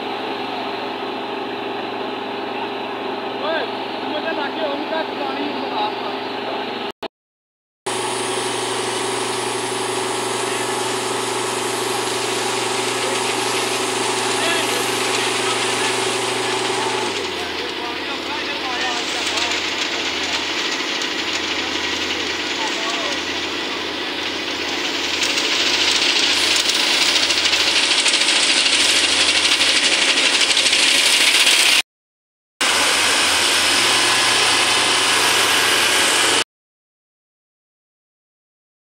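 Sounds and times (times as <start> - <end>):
combine harvester engine drone: 0.0 - 6.9, 7.9 - 31.8, 32.6 - 36.4.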